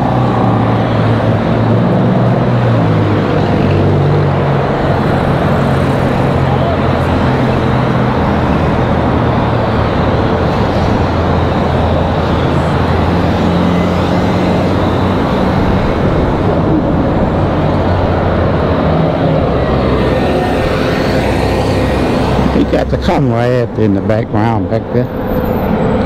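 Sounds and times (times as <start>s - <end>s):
bus passing close: 0.0s - 26.0s
road traffic drone: 0.0s - 26.0s.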